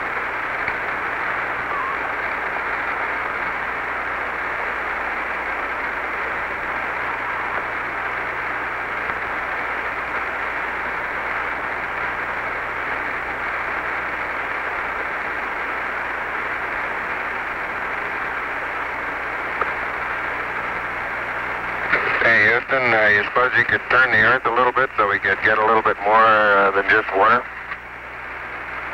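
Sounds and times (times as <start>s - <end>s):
low steady hum: 0.0s - 28.9s
radio static hiss: 0.0s - 28.9s.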